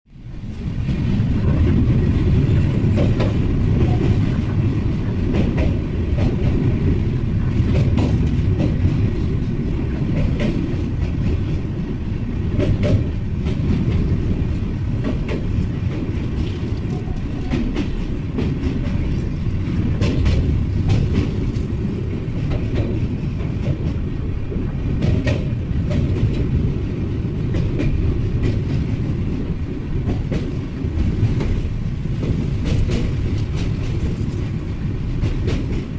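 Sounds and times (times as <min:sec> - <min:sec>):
train rumbling: 0:00.1 - 0:35.9
train wheels clicking over rail joints: 0:00.2 - 0:35.9.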